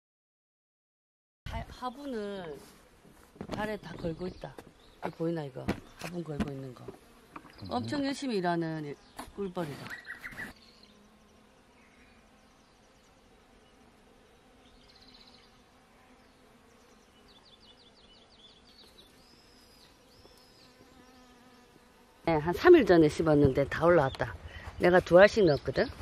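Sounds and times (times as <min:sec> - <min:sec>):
honeybee buzzing: 0:01.5 - 0:26.0.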